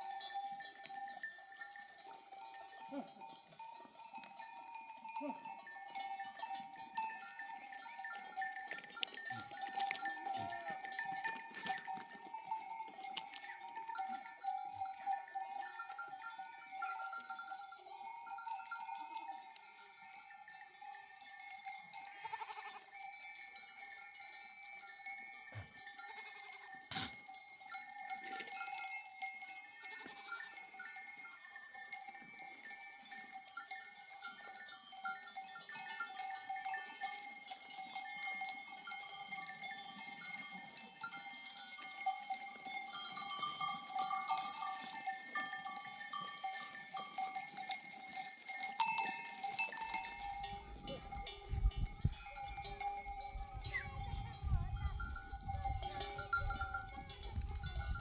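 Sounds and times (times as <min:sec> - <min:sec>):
sheep bells ringing and clinking: 0:00.0 - 0:58.0.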